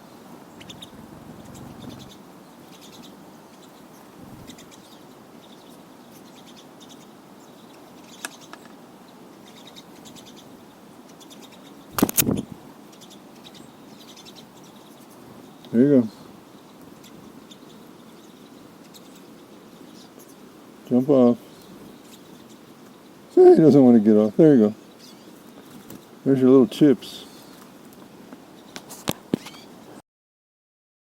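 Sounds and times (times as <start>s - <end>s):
small birds twittering: 0.0s - 30.0s.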